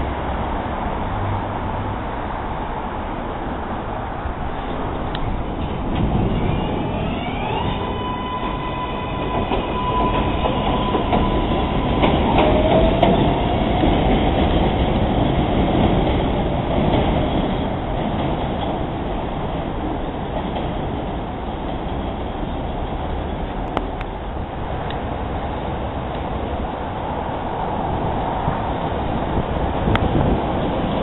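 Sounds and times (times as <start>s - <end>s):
subway train propulsion whine: 0.0s - 31.0s
train wheels clattering on rails: 4.7s - 31.0s.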